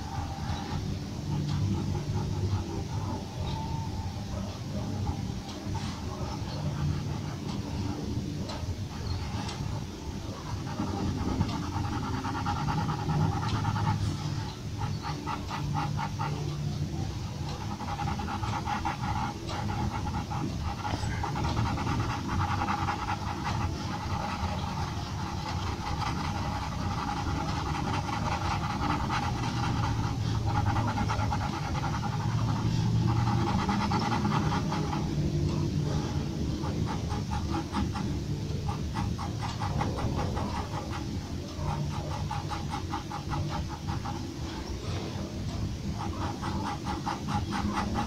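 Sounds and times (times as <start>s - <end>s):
pencil scratching on paper: 0.0s - 48.0s.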